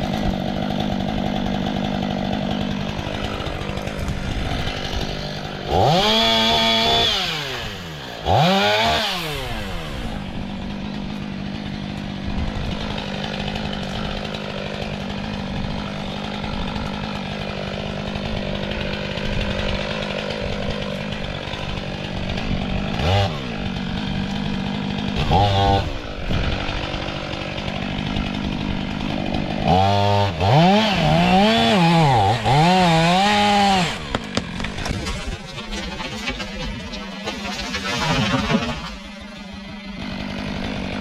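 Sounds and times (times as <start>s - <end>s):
chainsaw idling and revving: 0.0s - 41.0s.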